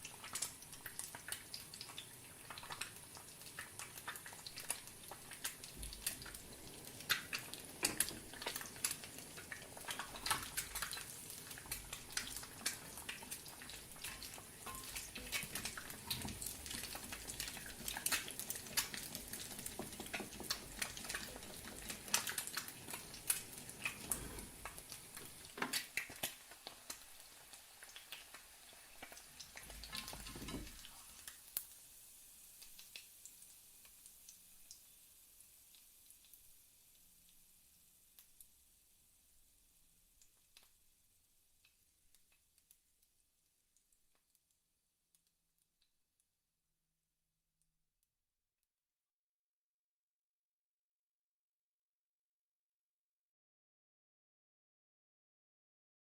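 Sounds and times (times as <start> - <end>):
eggs sizzling in a pan: 0.0 - 46.0.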